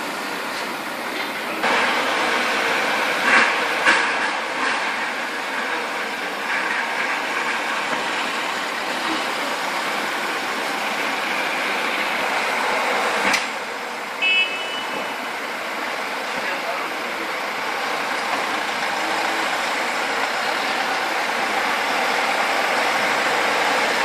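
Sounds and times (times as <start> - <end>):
passing vehicles rushing: 1.3 - 24.0.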